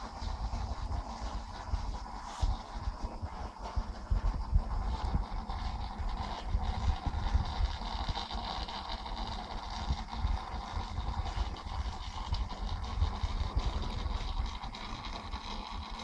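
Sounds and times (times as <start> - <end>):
low rumble: 0.0 - 15.9
aquarium pump running: 0.0 - 16.0
water bubbling and splashing: 0.0 - 16.0.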